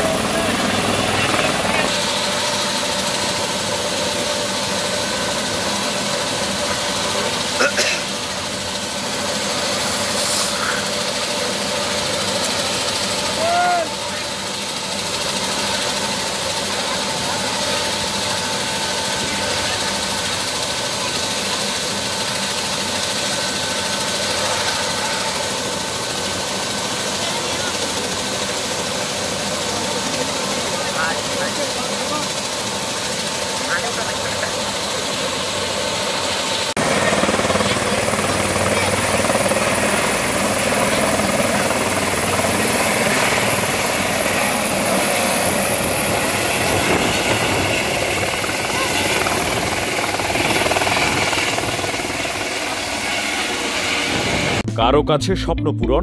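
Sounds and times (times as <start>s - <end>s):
high turbine whine: 0.0s - 54.7s
helicopter idling: 0.0s - 54.8s.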